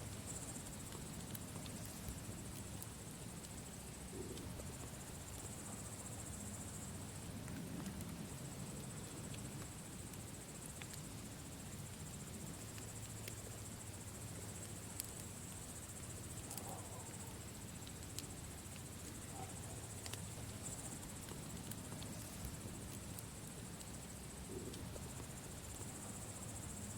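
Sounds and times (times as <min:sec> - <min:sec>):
campfire crackling: 0:00.0 - 0:26.9
insects trilling: 0:00.0 - 0:26.9.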